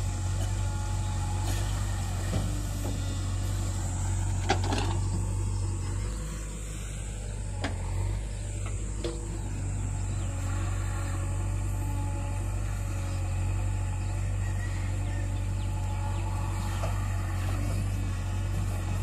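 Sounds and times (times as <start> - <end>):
backhoe digging mud: 0.0 - 19.0
diesel engines droning: 0.0 - 19.0.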